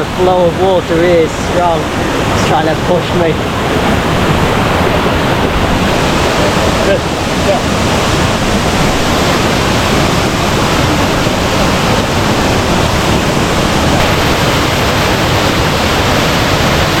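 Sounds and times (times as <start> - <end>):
waterfall and river rushing: 0.0 - 17.0.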